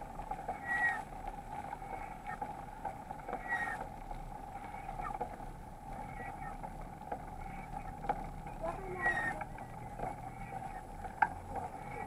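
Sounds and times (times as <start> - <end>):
muffled bike riding drone: 0.0 - 12.0.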